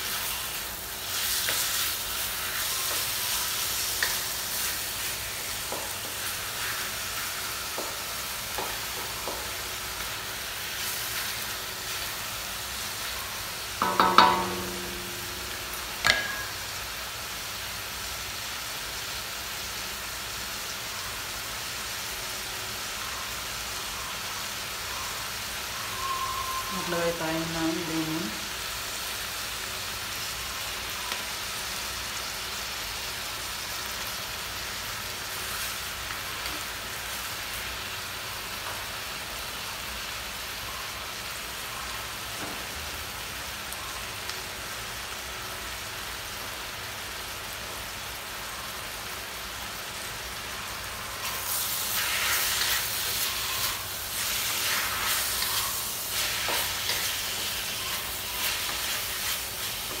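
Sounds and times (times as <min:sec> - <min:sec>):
food sizzling in a wok: 0:00.0 - 1:00.0.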